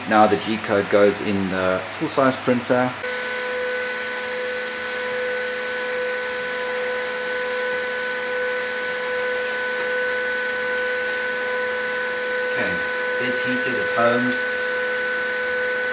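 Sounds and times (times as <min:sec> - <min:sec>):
cooling fans whirring: 0:00.0 - 0:15.9.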